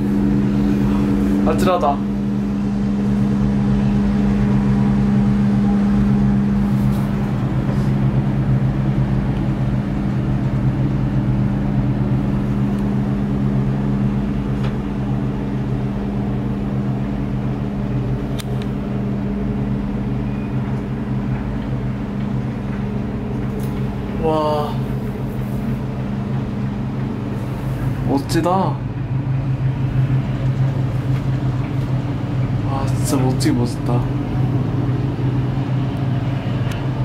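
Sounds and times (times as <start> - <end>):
gondola cabin droning hum: 0.0 - 37.0.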